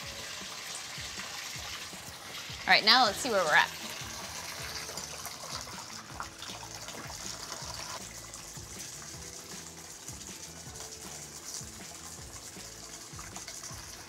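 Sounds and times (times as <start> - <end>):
water pouring into a glass: 0.0 - 14.0.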